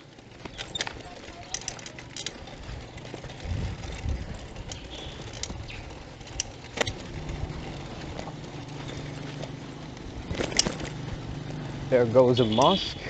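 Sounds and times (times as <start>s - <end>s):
bicycle rolling over dirt road: 0.0s - 13.0s
bike clicks and rattles: 0.0s - 13.0s
low engine hum: 0.0s - 13.0s.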